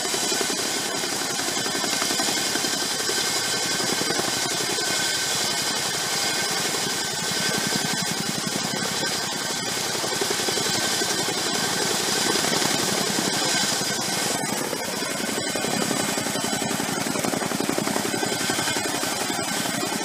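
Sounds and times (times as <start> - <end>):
helicopter rotor thumping: 0.0 - 20.0
turbine whine: 0.0 - 20.0.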